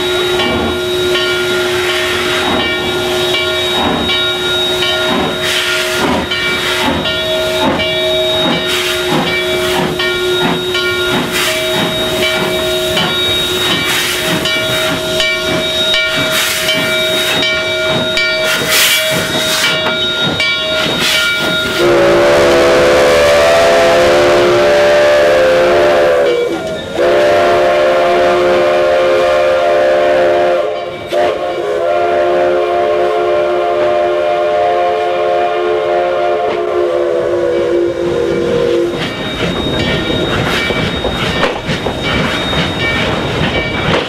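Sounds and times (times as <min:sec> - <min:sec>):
chime steam whistle: 0:00.0 - 0:44.0
rhythmic locomotive beats: 0:00.0 - 0:44.0
steam locomotive hissing: 0:00.0 - 0:44.0.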